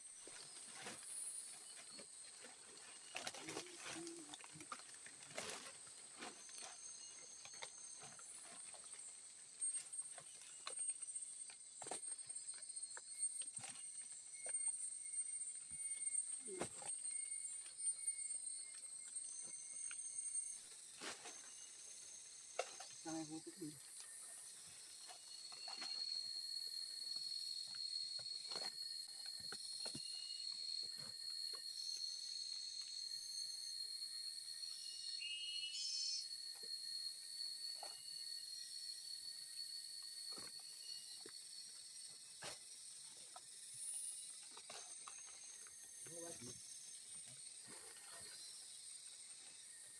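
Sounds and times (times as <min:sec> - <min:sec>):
crickets chirring: 0:00.0 - 0:49.9
insects droning: 0:00.0 - 0:49.9.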